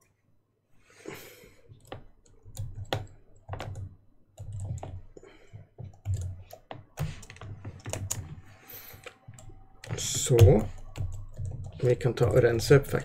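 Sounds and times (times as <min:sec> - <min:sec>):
typing on a computer keyboard: 0:01.7 - 0:13.0.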